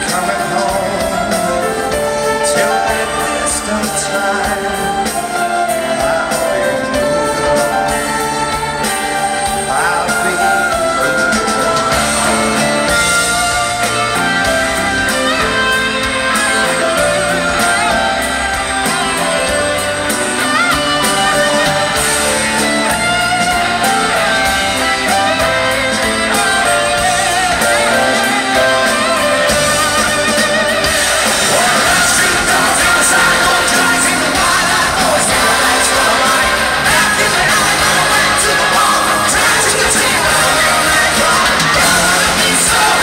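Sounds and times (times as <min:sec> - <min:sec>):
electric guitar melody: 0:00.0 - 0:43.0
live rock band playing: 0:00.0 - 0:43.0.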